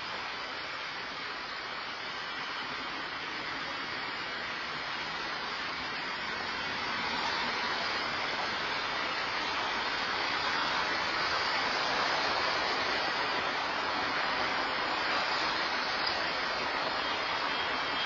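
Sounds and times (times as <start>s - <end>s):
road traffic hiss: 0.0s - 18.0s.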